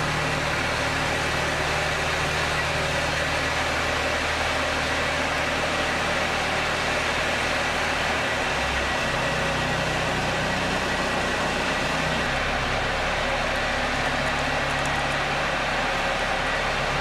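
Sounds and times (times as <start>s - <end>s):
tow tractor engine running: 0.0s - 17.0s.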